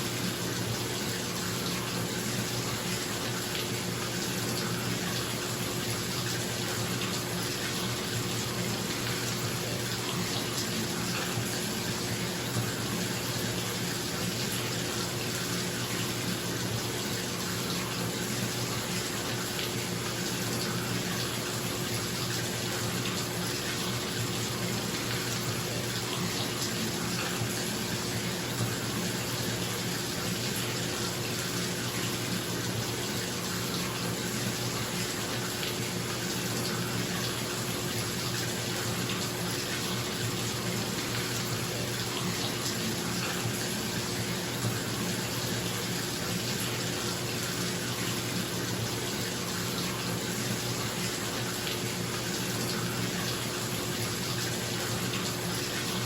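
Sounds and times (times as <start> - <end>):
water pouring into bathtub: 0.0 - 56.0.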